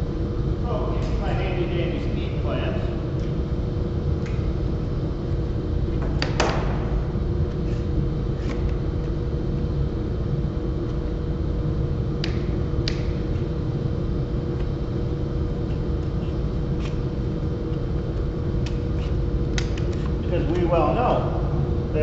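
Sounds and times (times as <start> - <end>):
low rumble with faint hum: 0.0 - 22.0.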